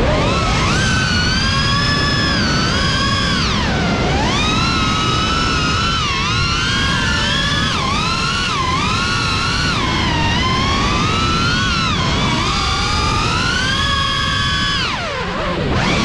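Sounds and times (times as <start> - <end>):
drone motors whining: 0.0 - 16.0
wind noise: 0.0 - 16.0.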